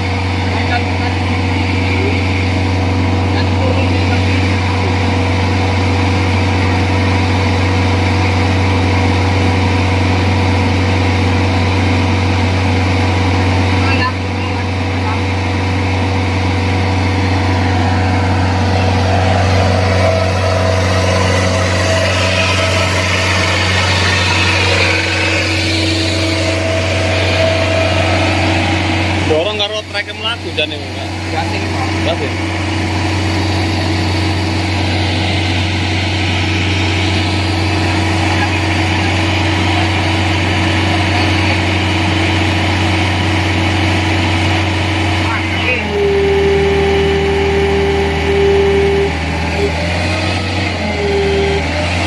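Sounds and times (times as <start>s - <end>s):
diesel engine droning: 0.0s - 52.0s.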